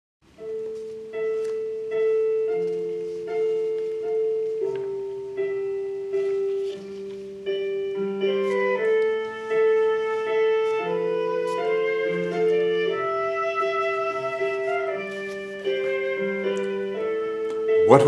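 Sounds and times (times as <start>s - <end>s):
piano chords over bass notes: 0.3s - 18.0s.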